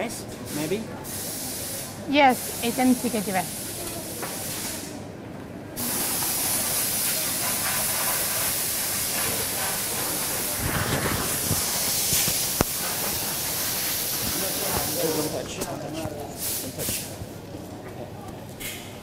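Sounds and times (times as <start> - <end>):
rushing air hiss: 0.4 - 5.1, 5.8 - 17.3.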